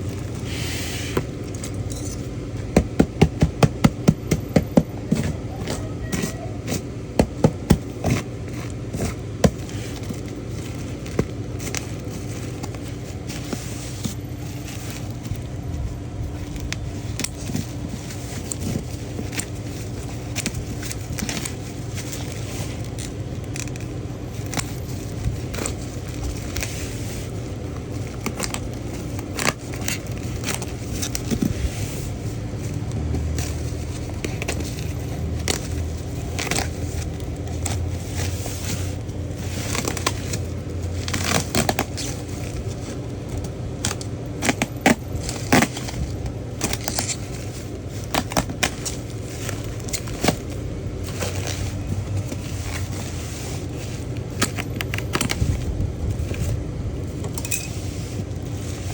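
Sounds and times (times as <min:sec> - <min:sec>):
steady low hum: 0:00.0 - 0:58.9
packaging being opened: 0:05.1 - 0:57.4.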